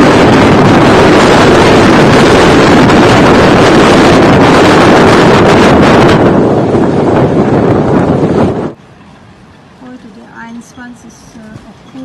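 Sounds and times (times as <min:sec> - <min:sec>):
wind blasting microphone: 0:00.0 - 0:12.0.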